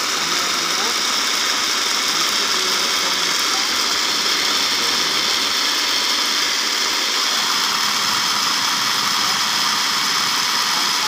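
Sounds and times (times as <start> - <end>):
electric food chopper running: 0.0 - 11.0.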